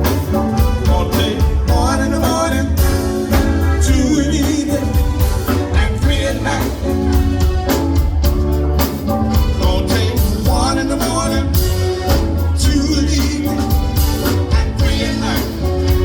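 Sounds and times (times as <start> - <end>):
heavy bass line: 0.0 - 16.0
live band playing: 0.0 - 16.0
steady drum beat: 0.0 - 16.0.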